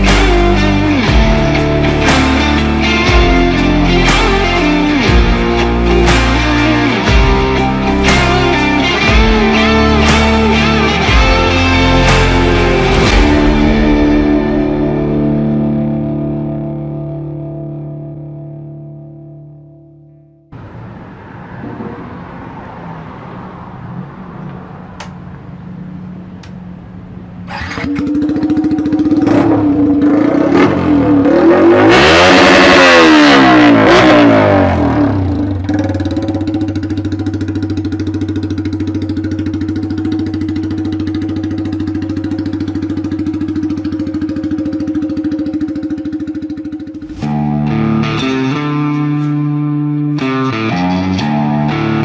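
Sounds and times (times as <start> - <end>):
motorcycle engine revving and idling: 0.0 - 16.0, 20.6 - 48.2.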